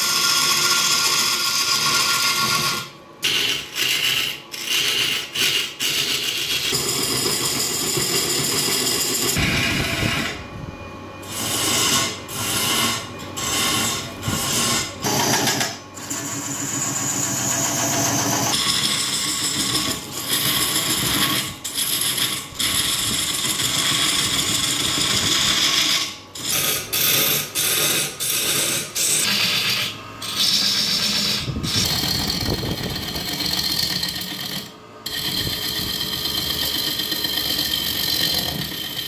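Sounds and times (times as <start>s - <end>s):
lathe tool scraping wood: 0.0s - 10.4s, 11.2s - 39.0s.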